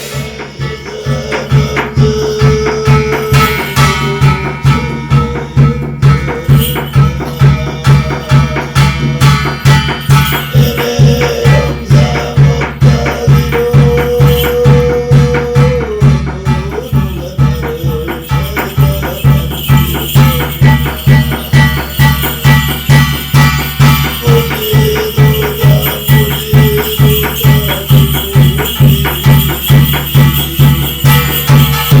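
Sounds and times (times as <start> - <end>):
heavy drum beat: 0.0 - 32.0
shaken jingling percussion: 0.0 - 32.0.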